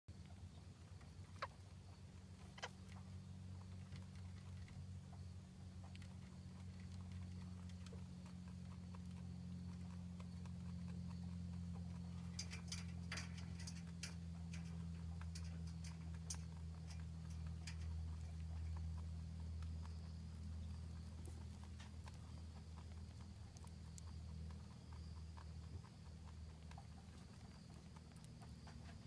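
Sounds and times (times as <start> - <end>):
faint ticks and rustles: 0.1 - 29.0
steady low hum: 0.1 - 29.0.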